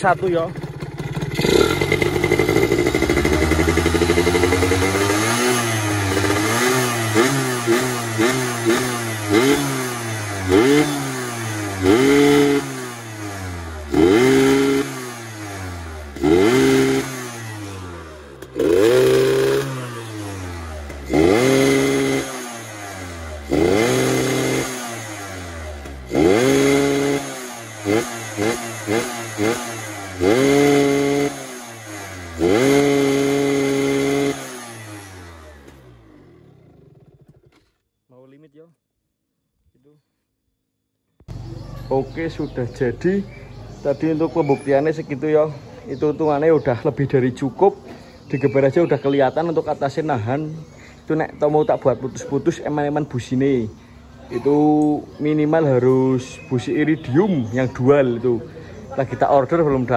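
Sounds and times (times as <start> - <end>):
two-stroke engine revving: 0.0 - 37.8, 41.3 - 59.9.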